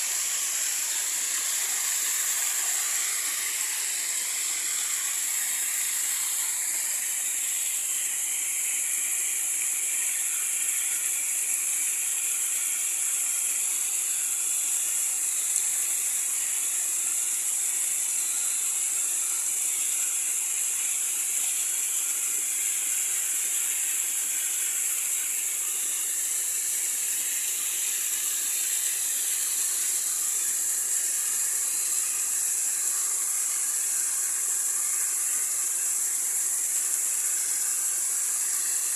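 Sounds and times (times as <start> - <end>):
running water hiss: 0.0 - 38.9.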